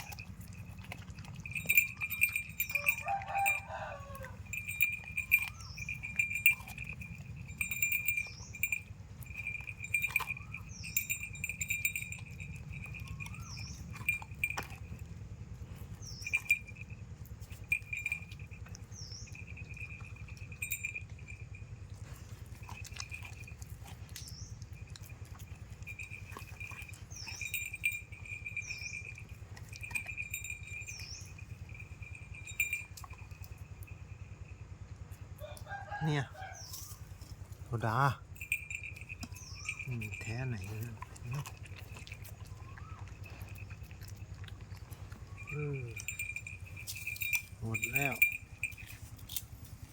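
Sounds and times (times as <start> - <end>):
dog crunching on coconut shell: 0.0 - 49.9.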